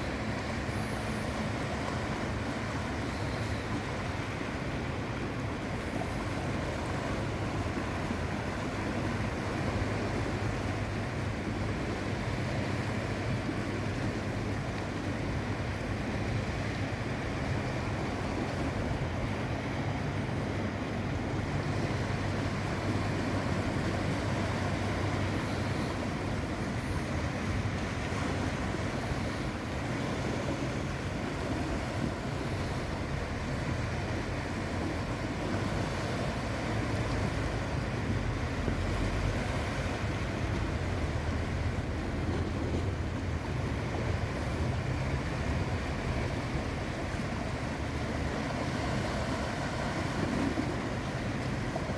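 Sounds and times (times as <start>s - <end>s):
surf washing onto shore: 0.0s - 51.9s.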